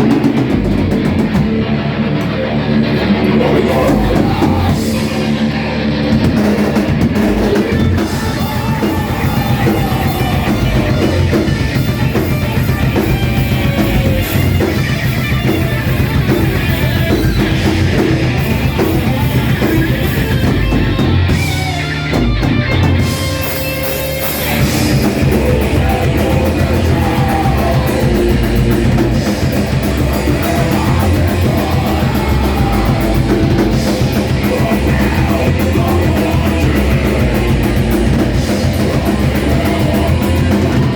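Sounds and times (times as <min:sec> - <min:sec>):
bass guitar: 0:00.0 - 0:40.9
distorted electric guitar: 0:00.0 - 0:40.9
drum kit: 0:00.0 - 0:40.9.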